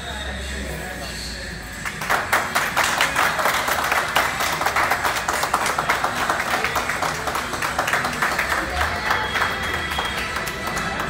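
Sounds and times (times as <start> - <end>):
group of people clapping: 1.8 - 11.0.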